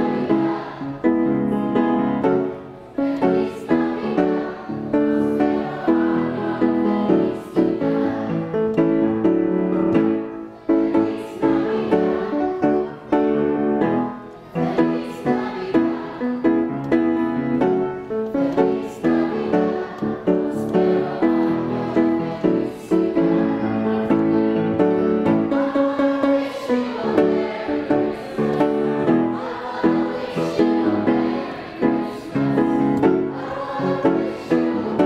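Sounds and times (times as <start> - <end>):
grand piano accompaniment: 0.0 - 35.0
treble choir singing: 0.0 - 35.0.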